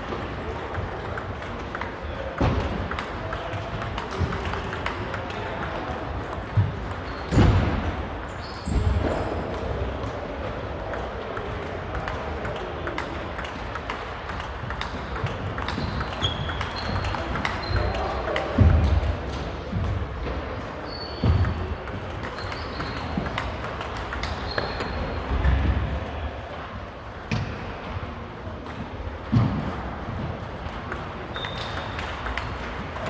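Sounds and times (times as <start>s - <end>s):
table tennis balls clicking: 0.0s - 20.1s, 20.8s - 25.8s, 30.4s - 33.0s.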